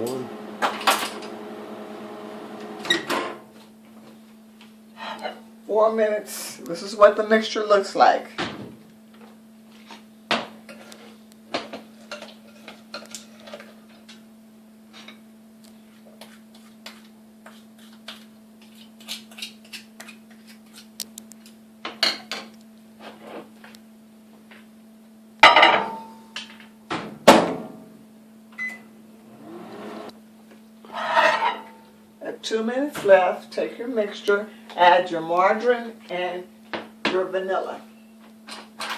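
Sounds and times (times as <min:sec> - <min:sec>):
microwave oven humming: 0:00.0 - 0:15.9, 0:21.0 - 0:38.9.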